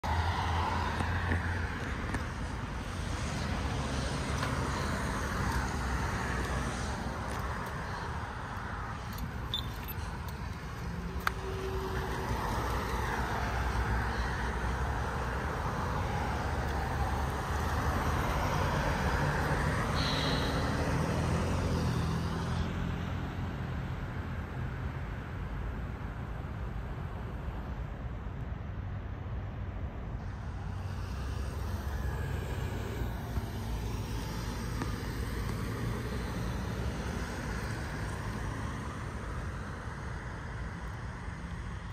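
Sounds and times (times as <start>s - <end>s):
cars passing: 0.0s - 41.9s
low steady traffic hum: 0.0s - 41.9s.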